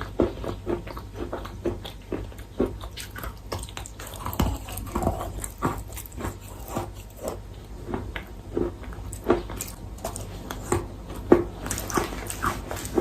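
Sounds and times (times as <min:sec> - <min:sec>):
chalk being chewed: 0:00.0 - 0:13.0.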